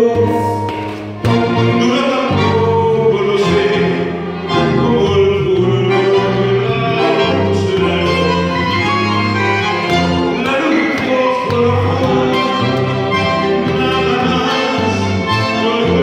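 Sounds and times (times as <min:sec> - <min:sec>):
man singing: 0:00.0 - 0:16.0
tango orchestra playing: 0:00.0 - 0:16.0.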